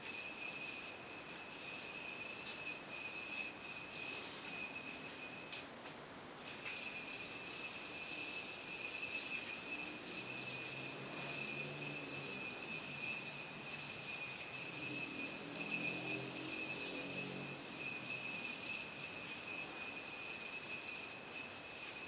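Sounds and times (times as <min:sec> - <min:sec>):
insect trill: 0:00.0 - 0:05.9, 0:06.6 - 0:22.0
constant hiss: 0:00.0 - 0:22.0.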